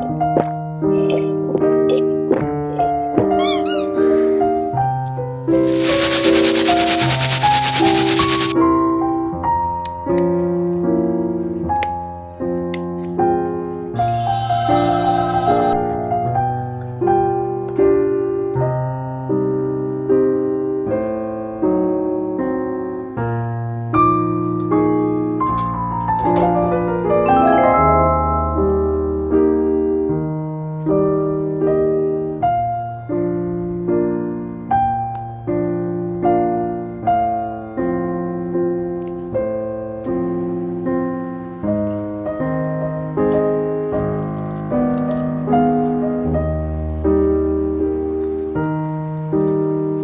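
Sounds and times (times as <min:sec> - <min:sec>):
slow piano melody: 0:00.0 - 0:50.0.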